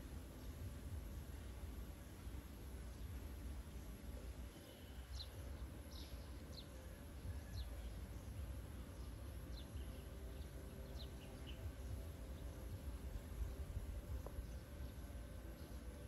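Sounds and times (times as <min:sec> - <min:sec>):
bird chirping: 0:00.0 - 0:16.0
low outdoor rumble: 0:00.0 - 0:16.0.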